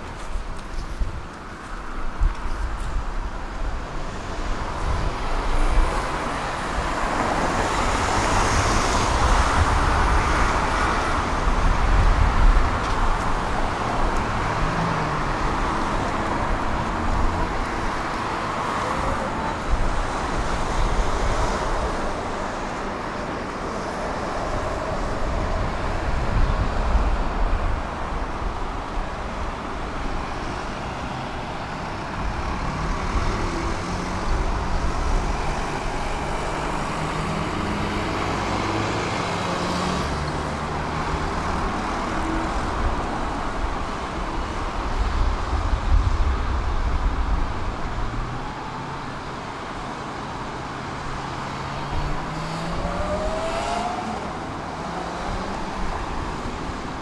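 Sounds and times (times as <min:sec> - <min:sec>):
car tyre and engine noise: 0:00.0 - 0:57.0.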